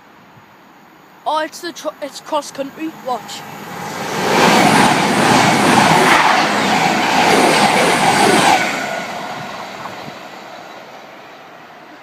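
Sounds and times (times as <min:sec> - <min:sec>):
passenger train passing at speed: 0:00.0 - 0:12.0.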